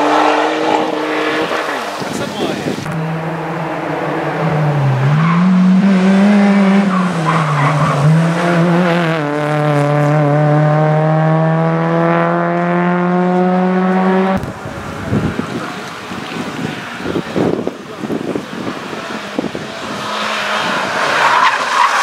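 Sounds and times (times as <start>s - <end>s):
car engine revving hard: 0.0s - 22.0s.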